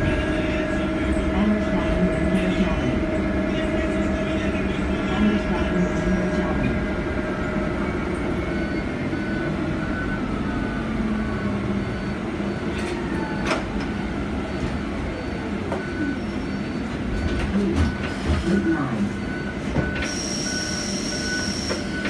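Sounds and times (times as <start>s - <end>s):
bus road rumble: 0.0s - 22.0s.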